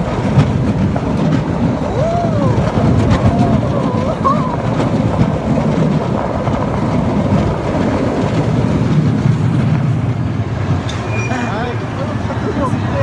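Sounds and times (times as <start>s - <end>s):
roller coaster wheels rumbling: 0.0s - 13.0s.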